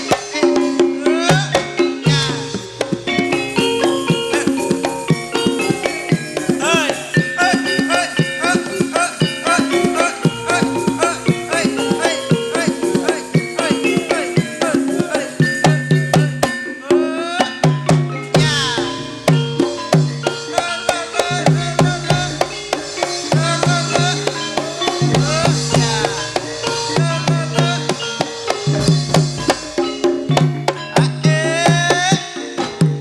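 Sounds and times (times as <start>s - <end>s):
hand drums quick rhythm: 0.0s - 33.0s
sliding melodic line: 0.0s - 33.0s
sustained pitched tones: 0.0s - 33.0s.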